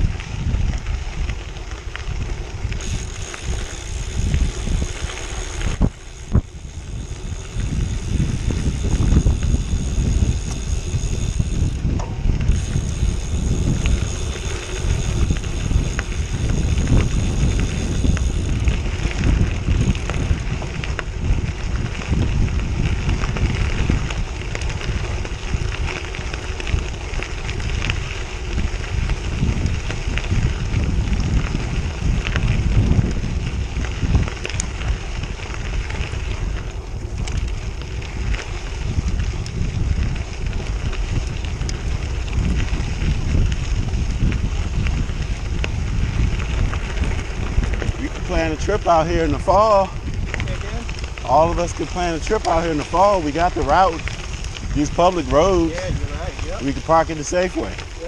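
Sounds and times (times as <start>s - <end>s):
bicycle tyres crunching on gravel: 0.0s - 58.0s
wind buffeting microphone: 0.0s - 58.0s.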